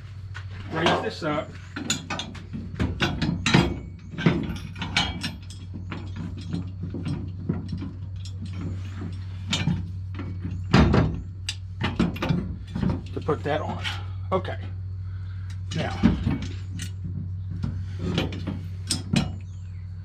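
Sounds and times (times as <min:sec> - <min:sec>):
steady low hum: 0:00.0 - 0:20.0
steel parts clicking and clanking: 0:00.7 - 0:14.8, 0:15.4 - 0:19.9.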